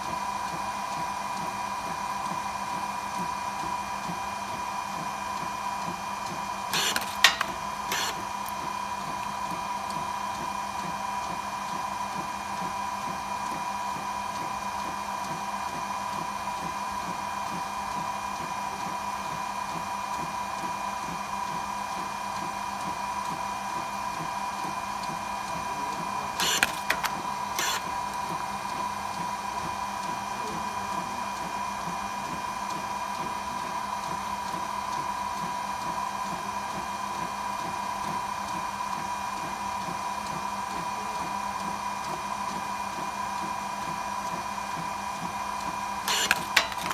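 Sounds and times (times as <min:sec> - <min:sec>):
photo printer humming and whining: 0:00.0 - 0:46.9.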